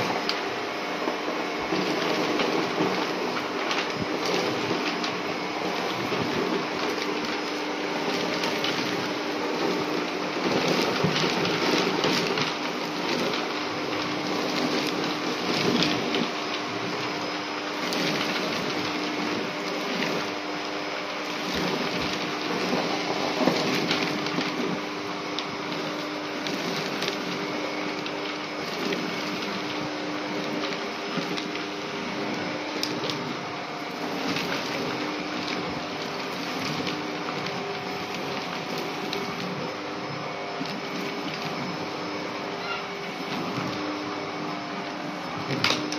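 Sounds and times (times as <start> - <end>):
vacuum cleaner motor hum: 0.0 - 45.9
paper scraps rattling through nozzle: 1.7 - 44.0, 44.9 - 45.9.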